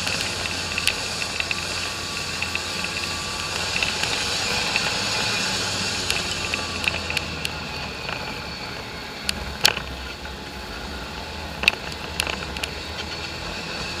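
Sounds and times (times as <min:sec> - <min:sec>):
sharp clicks and knocks: 0:00.0 - 0:08.4, 0:09.2 - 0:10.3, 0:11.6 - 0:13.4
off-road vehicle engine drone: 0:00.0 - 0:14.0.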